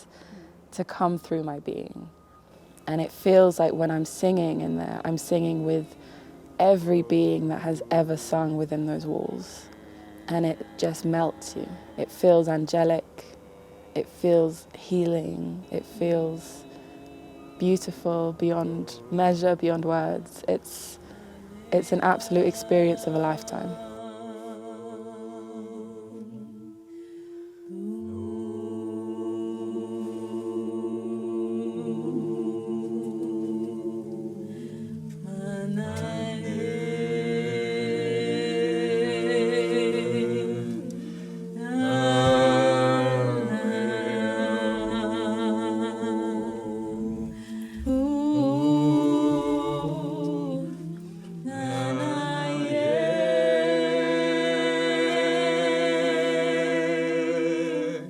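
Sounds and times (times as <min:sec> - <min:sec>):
voices singing in harmony: 0:00.0 - 0:58.0.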